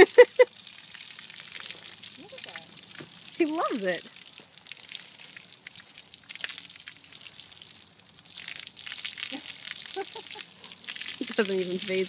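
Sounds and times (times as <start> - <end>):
hose water spattering on wet coat: 0.0 - 12.0.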